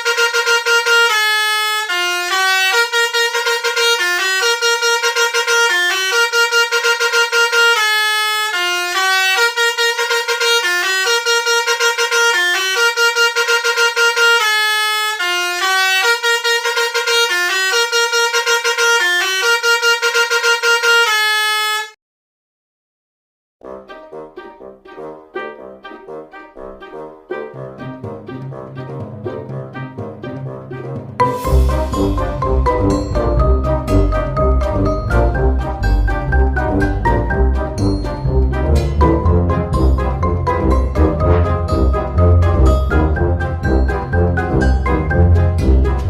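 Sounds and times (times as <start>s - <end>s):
bus horn playing a melody: 0.0s - 22.0s, 23.6s - 46.0s.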